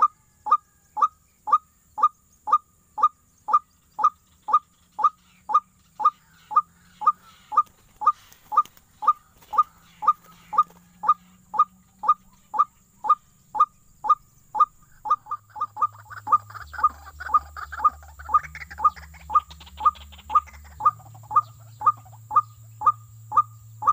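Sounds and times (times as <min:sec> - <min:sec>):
busy bird calling: 0:00.0 - 0:23.9
waterhen calling: 0:00.0 - 0:23.9.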